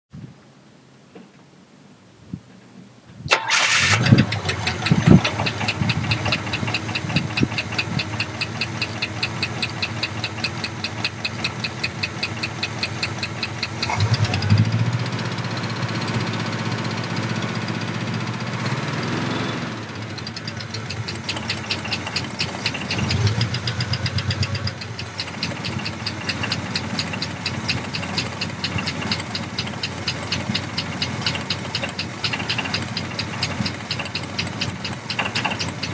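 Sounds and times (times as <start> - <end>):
engine revving: 3.4 - 35.9
car engine knocking and tapping: 3.6 - 18.6, 19.8 - 35.9.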